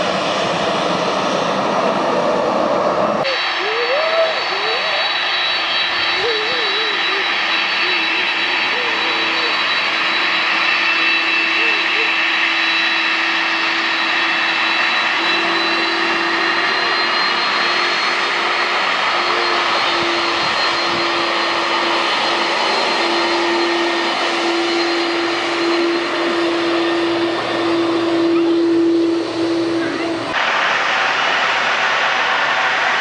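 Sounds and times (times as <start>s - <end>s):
jet engines rushing: 0.0s - 33.0s
high whining tones: 1.9s - 33.0s.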